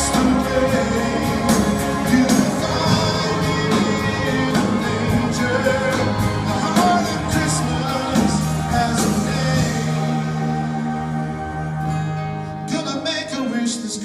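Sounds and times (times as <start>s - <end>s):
pop-rock band music: 0.0s - 14.0s.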